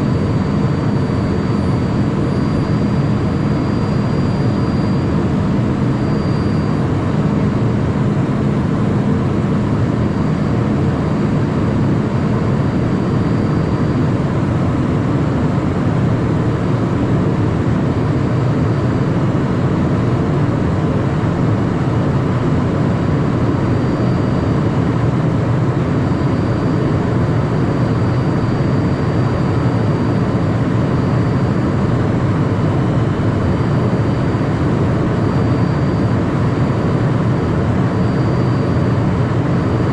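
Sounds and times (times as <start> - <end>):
faint high whine: 0.0 - 39.9
jet cockpit rumble: 0.0 - 39.9.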